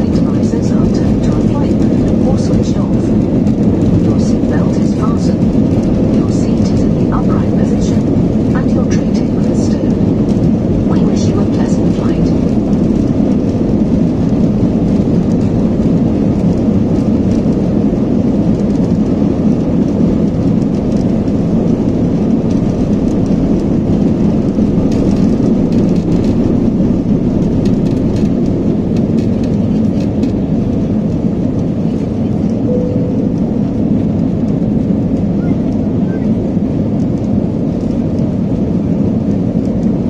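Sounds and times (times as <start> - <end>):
jet engines deep rumble: 0.0 - 40.0
runway noise: 0.0 - 40.0.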